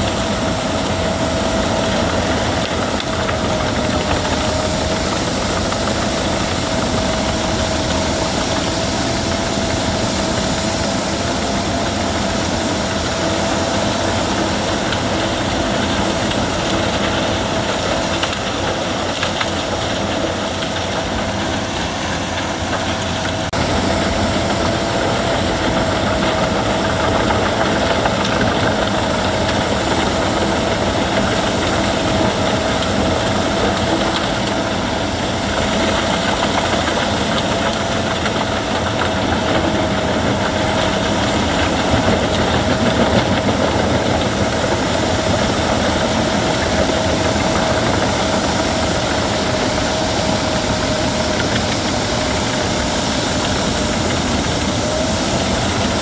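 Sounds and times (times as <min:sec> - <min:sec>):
wood chipper whining: 0:00.0 - 0:56.0.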